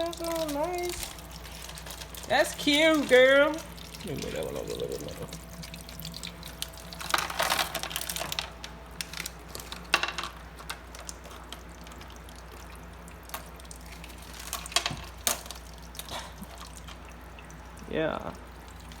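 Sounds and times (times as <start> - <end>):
steady low hum: 0.0 - 19.0
tabletop fountain trickling: 0.0 - 19.0.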